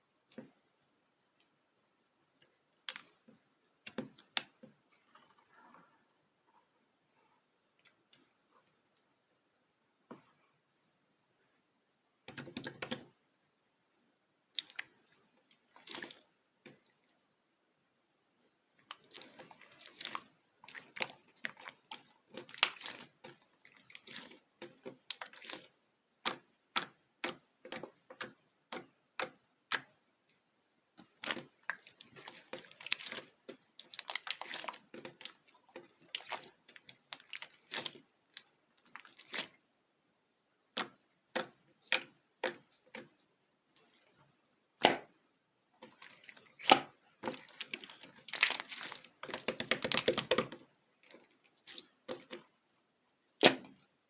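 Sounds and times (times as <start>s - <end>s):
slime squishing: 2.2s - 9.3s, 14.4s - 17.1s, 18.6s - 39.7s, 40.5s - 54.0s.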